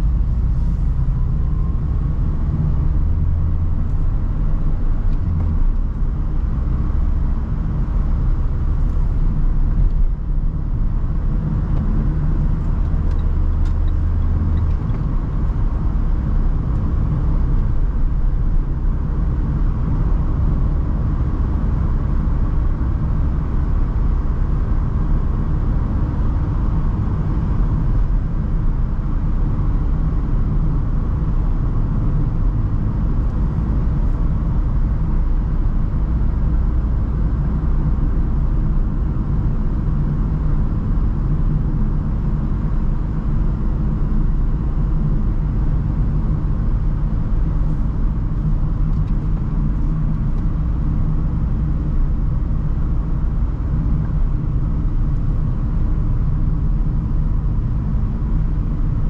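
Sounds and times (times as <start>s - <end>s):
low engine hum: 0.0s - 59.0s
van engine and road noise: 0.0s - 59.0s.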